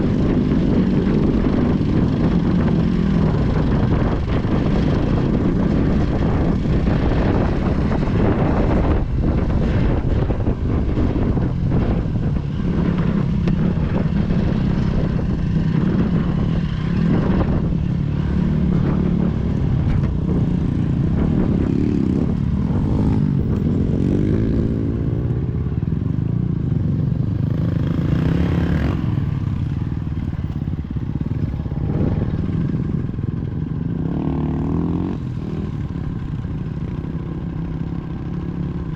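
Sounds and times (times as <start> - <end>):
vehicle engine running under load: 0.0 - 38.9.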